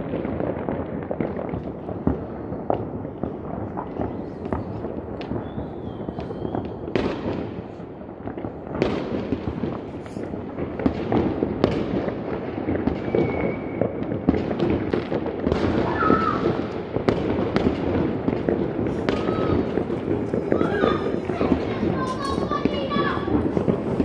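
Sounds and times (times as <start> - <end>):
crackle of distant fireworks: 0.0 - 24.0
loud firecracker bangs: 0.0 - 24.0.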